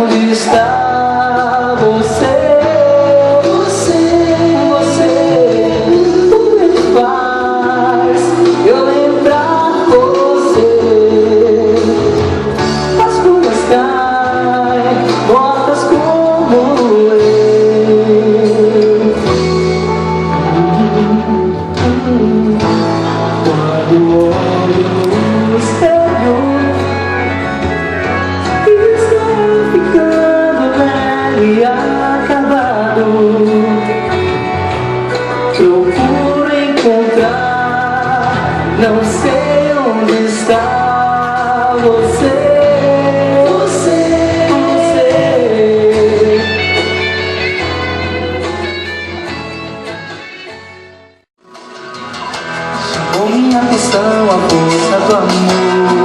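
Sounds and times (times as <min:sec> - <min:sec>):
person singing: 0:00.0 - 0:50.6, 0:51.4 - 0:56.0
pop music with guitar and bass: 0:00.0 - 0:56.0.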